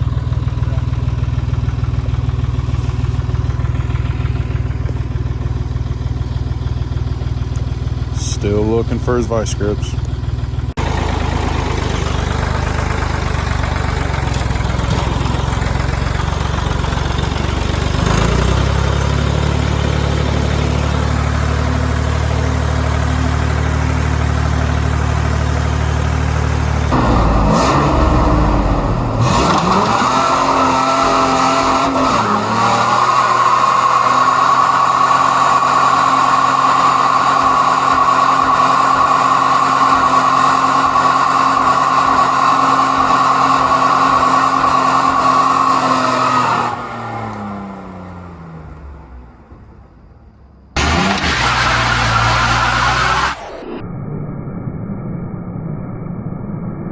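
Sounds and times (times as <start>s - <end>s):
truck engine running: 0.0s - 53.7s.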